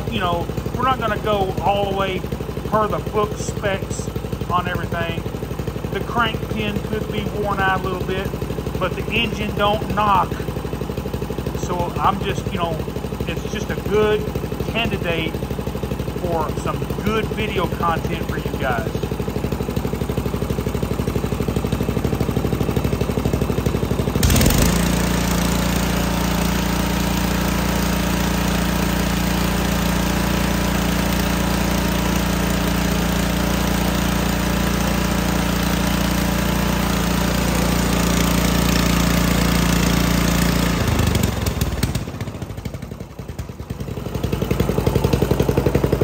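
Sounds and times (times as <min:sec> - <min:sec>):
riding mower engine running: 0:00.0 - 0:46.0.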